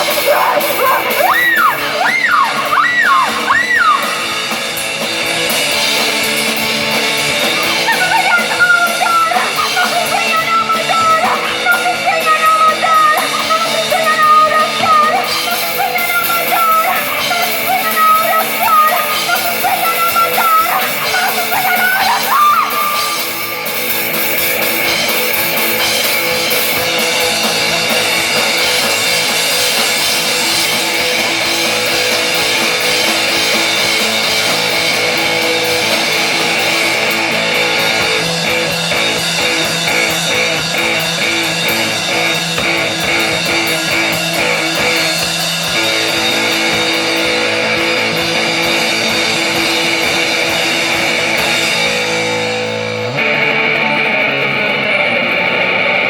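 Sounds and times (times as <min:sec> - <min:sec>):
rock band playing loudly: 0:00.0 - 0:56.0.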